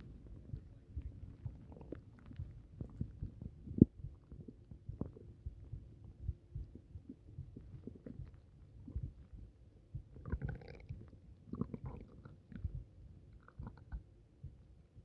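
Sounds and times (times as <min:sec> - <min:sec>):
stomach rumbling and gurgling: 0:00.0 - 0:15.0.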